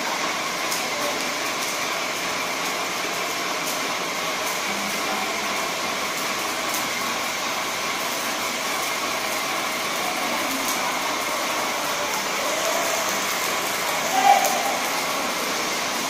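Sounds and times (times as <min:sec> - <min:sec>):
paint sprayer hissing: 0:00.0 - 0:16.0.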